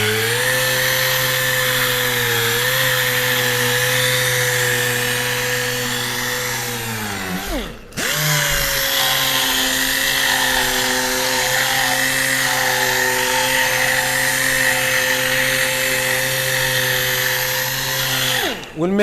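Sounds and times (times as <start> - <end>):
orbital sander on plastic: 0.0 - 19.0.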